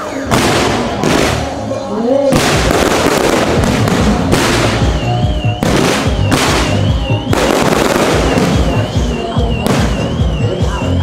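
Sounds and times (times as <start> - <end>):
fireworks bangs and crackle: 0.0 - 11.0
music playing: 0.0 - 11.0.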